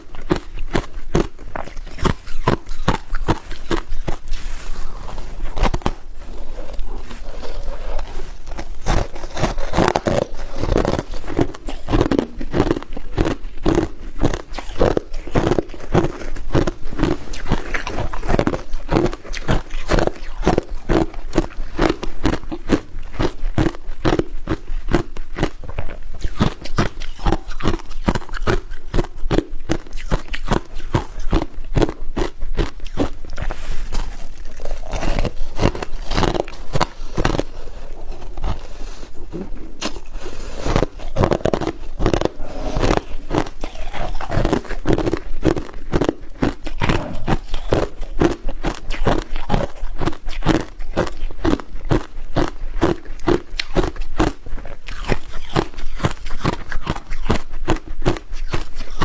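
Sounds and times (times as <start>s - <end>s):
person crunching ice: 0.0s - 59.0s.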